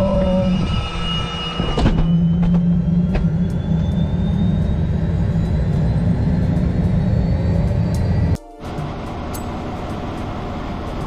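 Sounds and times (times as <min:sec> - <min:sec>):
helicopter engine and rotor: 0:00.1 - 0:11.0.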